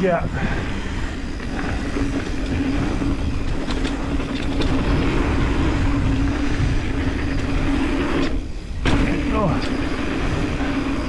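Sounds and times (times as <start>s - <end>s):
bike tyres rumbling over dirt: 0.0s - 11.0s
steady hum: 0.0s - 11.0s
wind on microphone: 0.0s - 11.0s.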